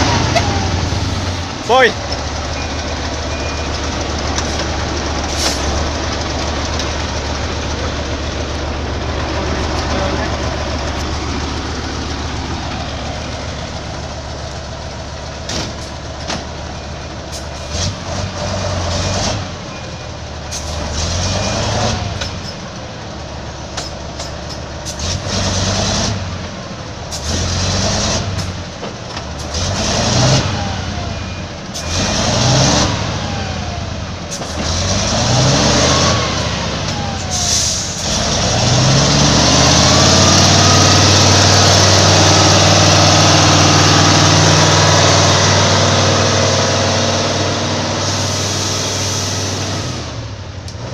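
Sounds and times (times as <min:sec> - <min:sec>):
truck engine revving: 0:00.0 - 0:23.5, 0:24.3 - 0:50.9.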